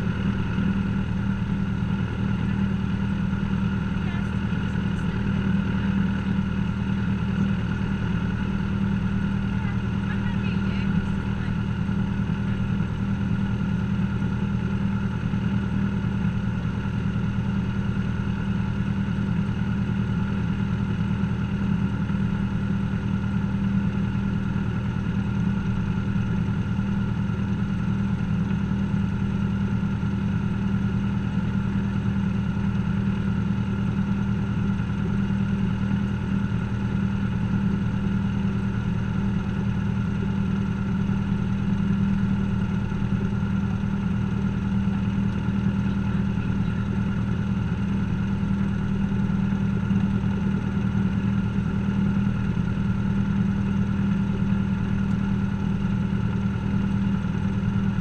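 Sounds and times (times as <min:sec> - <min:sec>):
aircraft engine idling: 0:00.0 - 0:58.0.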